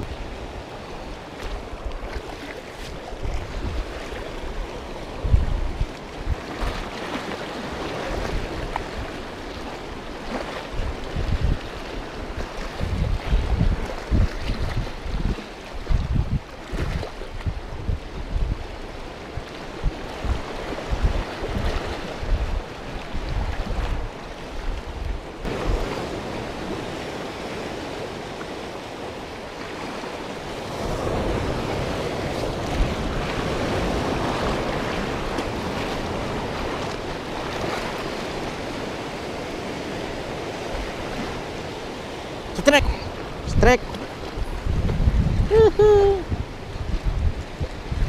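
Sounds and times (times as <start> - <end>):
sea wash: 0.0 - 48.0
wind buffeting microphone: 0.0 - 48.0.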